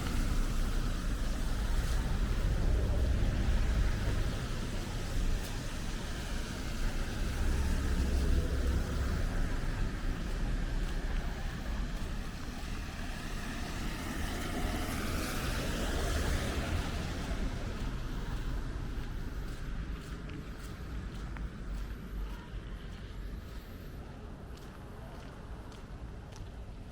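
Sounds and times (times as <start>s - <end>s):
traffic rumbling past: 0.0s - 26.9s.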